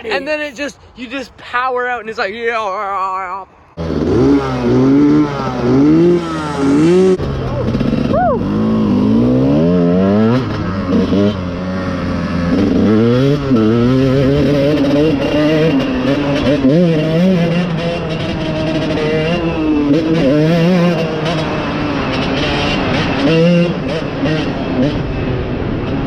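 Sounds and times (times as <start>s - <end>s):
dirt bike engine revving: 3.8s - 25.2s.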